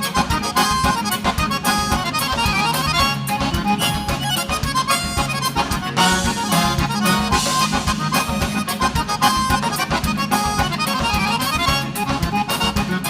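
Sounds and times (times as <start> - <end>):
accordion dance music: 0.0 - 13.0
steady bass beat: 0.0 - 13.0.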